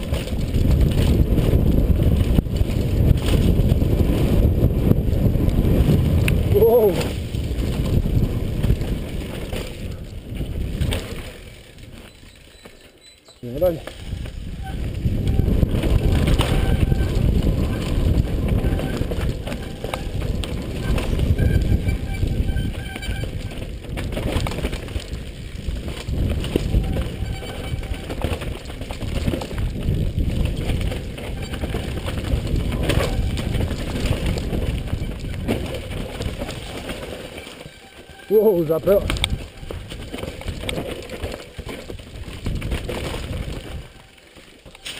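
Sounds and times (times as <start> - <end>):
wind buffeting a camera: 0.0 - 12.6, 13.4 - 44.9
bike knocks and rattles: 0.0 - 44.9
bike tyres rumbling on dirt: 0.0 - 44.9.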